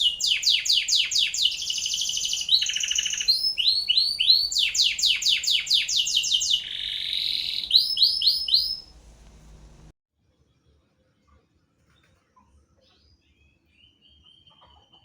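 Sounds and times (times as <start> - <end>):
songbird singing: 0.0 - 9.9, 12.8 - 15.0.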